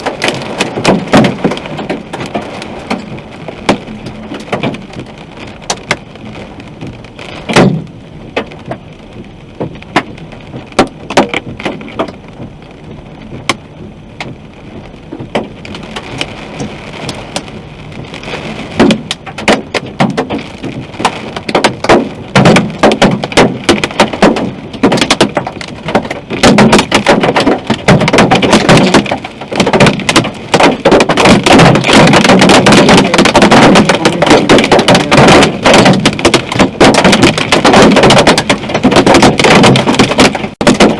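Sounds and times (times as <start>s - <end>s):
hail striking car roof: 0.0s - 40.9s.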